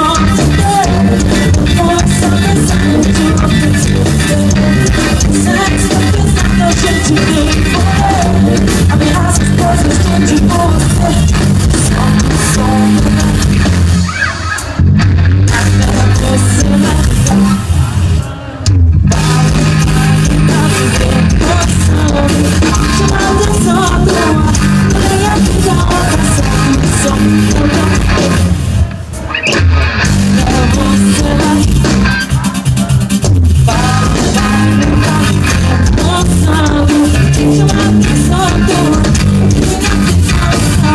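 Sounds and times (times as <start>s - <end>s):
live pop band playing: 0.0s - 40.9s.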